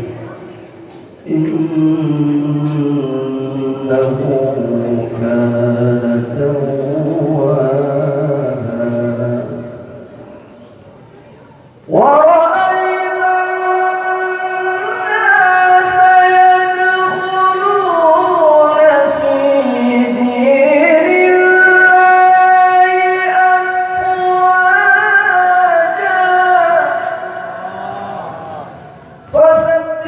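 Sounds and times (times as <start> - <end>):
person reciting melodically: 0.0 - 30.0.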